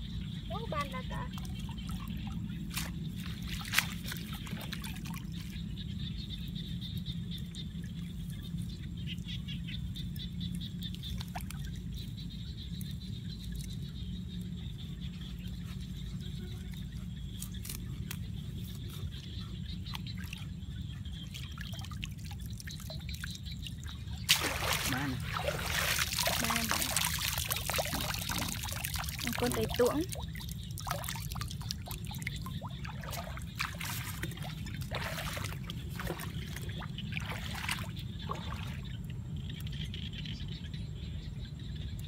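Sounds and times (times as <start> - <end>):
water trickling and splashing: 0.0 - 39.9
steady low rumble: 0.0 - 42.0.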